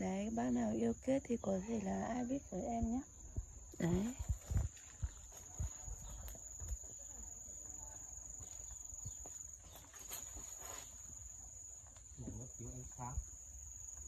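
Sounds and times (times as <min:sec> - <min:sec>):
insect high-pitched singing: 0:00.0 - 0:14.0.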